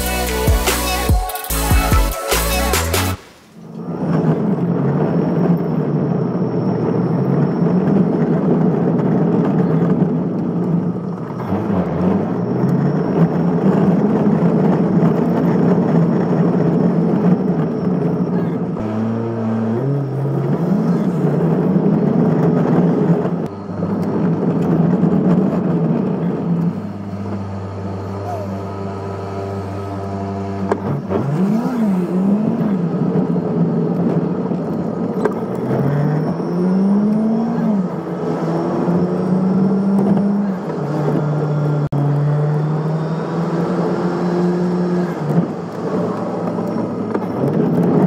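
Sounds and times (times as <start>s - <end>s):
car engine: 0.0s - 48.0s
tyres rumbling on cobblestones: 1.5s - 48.0s.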